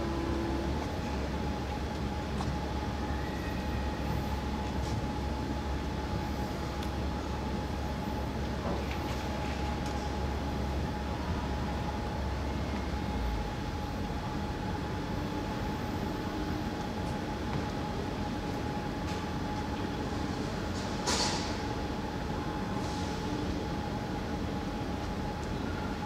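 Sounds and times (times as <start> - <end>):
electric train humming: 0.0 - 21.0, 21.6 - 26.0.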